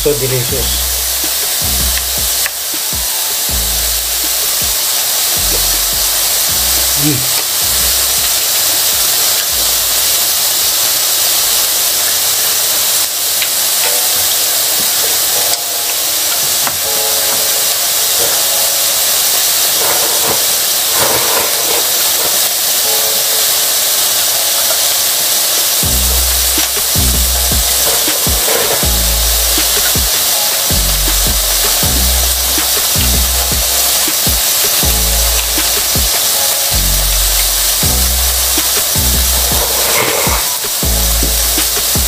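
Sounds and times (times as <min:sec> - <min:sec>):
meat sizzling on a grill pan: 0:00.2 - 0:42.0.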